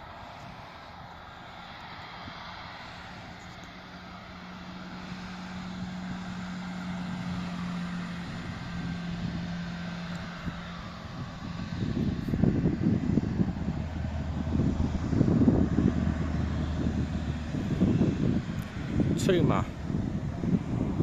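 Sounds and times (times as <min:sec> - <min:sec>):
distant jet engines rushing: 0:00.0 - 0:21.0.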